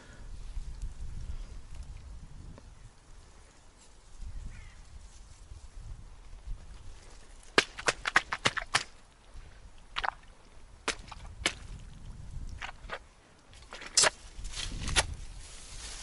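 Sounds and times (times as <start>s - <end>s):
wind rumble on microphone: 0.0s - 7.3s, 9.2s - 16.0s
footsteps crackling through dry grass: 0.3s - 9.3s, 10.8s - 16.0s.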